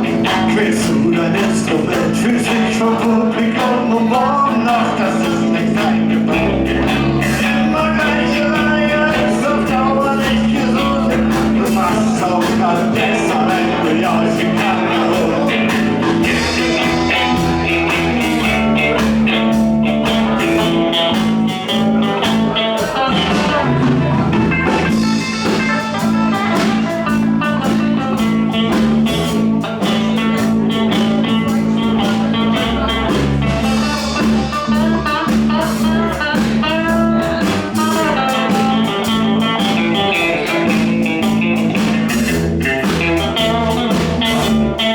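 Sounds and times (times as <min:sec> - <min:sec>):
bass notes: 0:00.0 - 0:44.9
guitar melody: 0:00.0 - 0:44.9
live blues band playing: 0:00.0 - 0:44.9.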